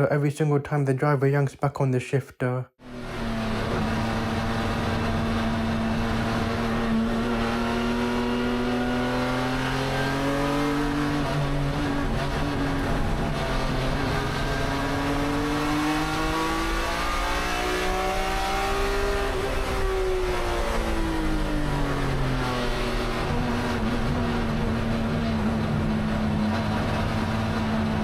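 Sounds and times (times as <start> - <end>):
race car engine revving: 2.9 - 28.0.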